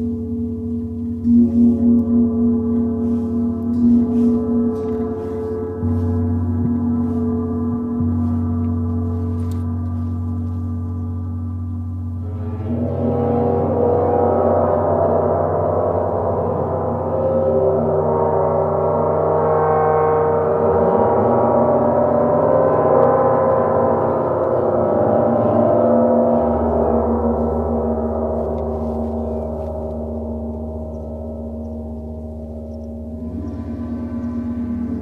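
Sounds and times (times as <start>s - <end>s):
large gongs ringing: 0.0s - 35.0s.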